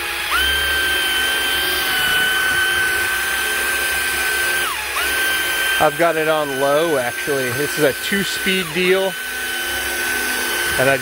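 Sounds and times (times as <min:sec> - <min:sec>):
polisher motor whining: 0:00.0 - 0:11.0.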